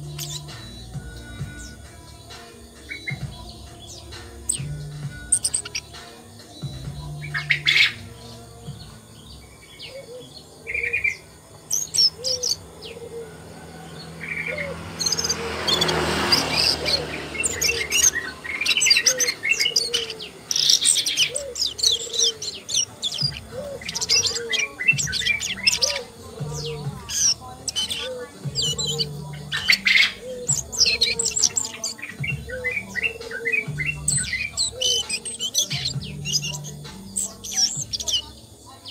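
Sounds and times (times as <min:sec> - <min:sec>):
bird chirping and twittering: 0:00.0 - 0:38.9.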